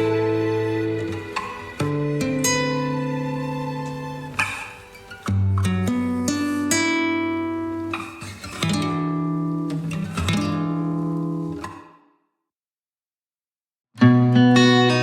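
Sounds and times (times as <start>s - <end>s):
plucked acoustic guitar: 0.0s - 12.1s, 14.0s - 15.0s.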